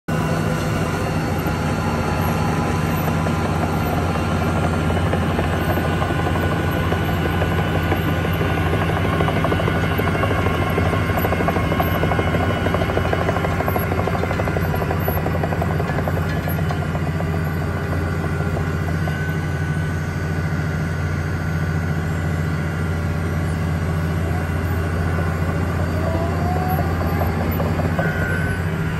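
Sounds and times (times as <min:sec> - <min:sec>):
diesel engine running steadily: 0:00.0 - 0:28.9.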